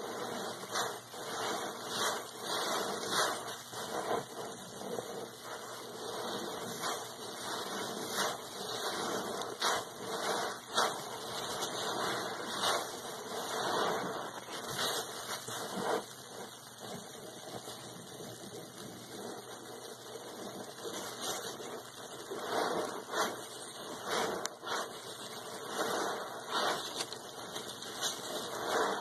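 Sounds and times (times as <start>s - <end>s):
foam crackling: 0.0s - 29.0s
sponge squelching: 0.0s - 29.0s.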